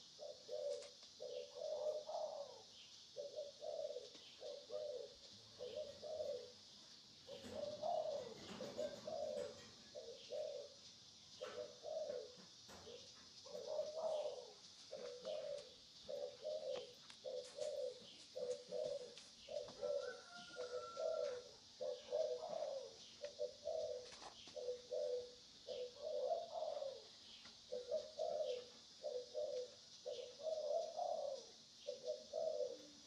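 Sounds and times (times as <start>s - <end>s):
constant high hiss: 0.0s - 33.0s.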